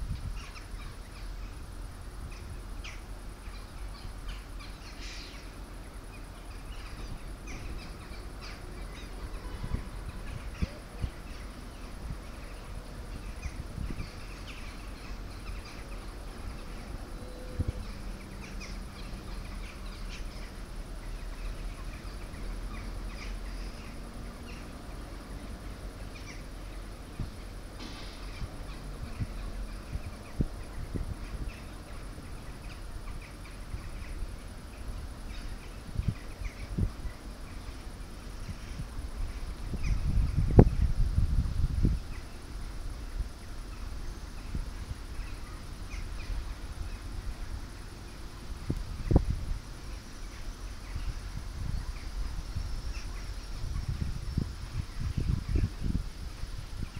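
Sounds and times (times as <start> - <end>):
steady low rumble: 0.0 - 56.9
small birds chirping: 0.1 - 56.9.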